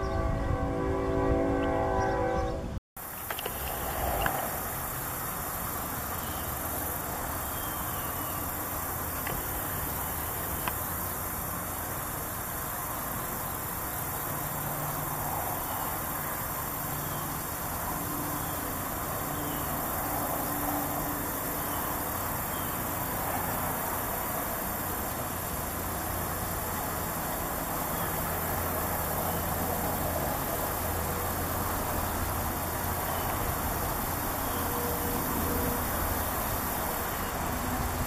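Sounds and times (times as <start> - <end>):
outdoor background hiss: 0.0 - 38.0.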